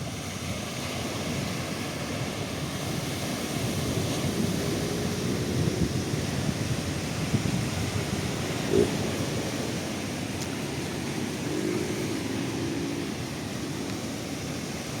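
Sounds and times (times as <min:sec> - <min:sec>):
ocean surf washing on beach: 0:00.0 - 0:15.0.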